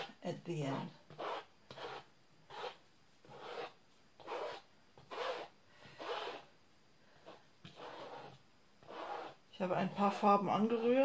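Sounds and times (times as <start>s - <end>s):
comb scraping paint on canvas: 0.0s - 6.5s, 7.2s - 11.0s.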